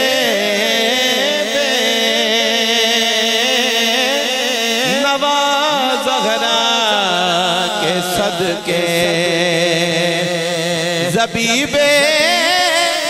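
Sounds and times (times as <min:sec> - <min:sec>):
man singing ornamented melody: 0:00.0 - 0:13.0.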